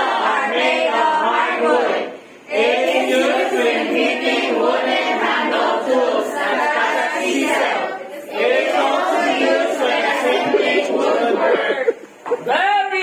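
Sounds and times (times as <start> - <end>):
students chanting in unison: 0.0 - 11.9.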